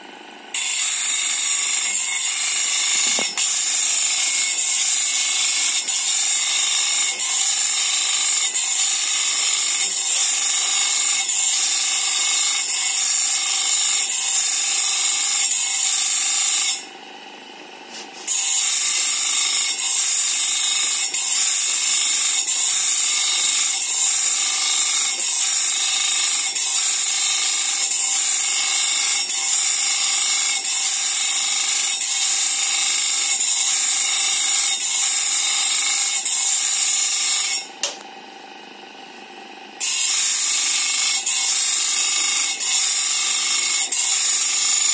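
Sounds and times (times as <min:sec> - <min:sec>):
bench grinder grinding steel: 0:00.0 - 0:44.9.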